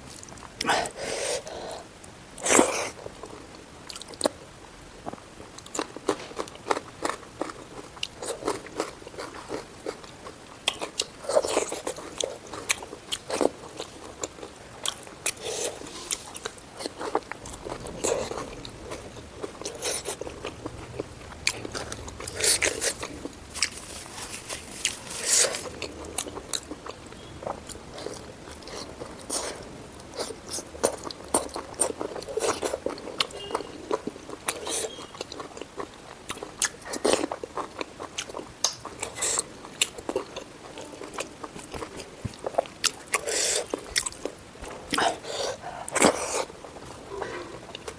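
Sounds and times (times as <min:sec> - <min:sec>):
person chewing food: 0:00.0 - 0:04.4, 0:05.0 - 0:47.9.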